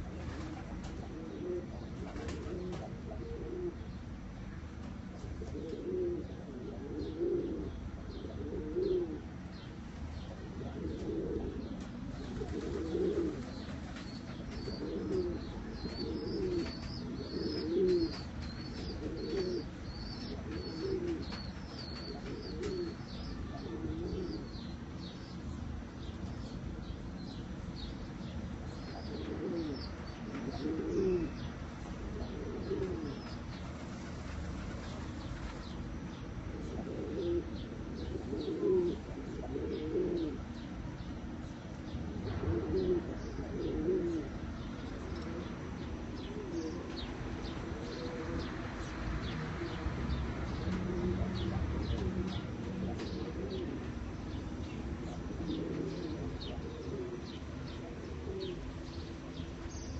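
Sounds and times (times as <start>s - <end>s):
pigeons cooing: 0.0s - 3.9s, 5.2s - 24.9s, 28.5s - 40.7s, 41.9s - 59.9s.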